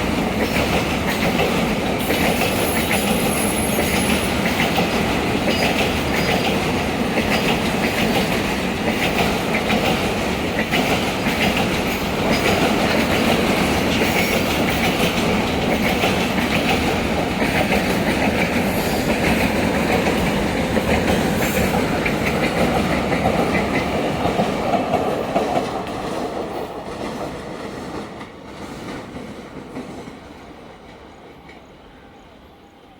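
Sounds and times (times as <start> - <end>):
freight train rumble: 0.0 - 32.9.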